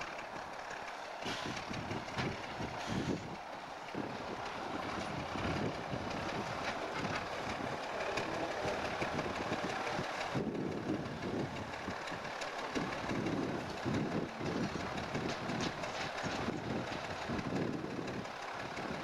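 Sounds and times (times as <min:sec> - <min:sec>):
heavy engine running at low revs: 0:00.0 - 0:19.0.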